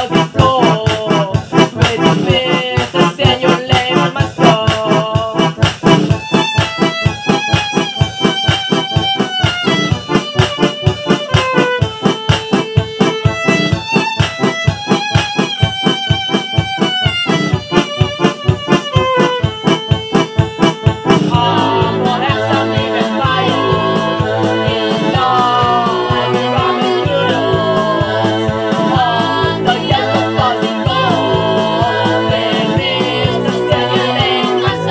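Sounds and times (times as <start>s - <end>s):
song recording: 0.0s - 34.9s.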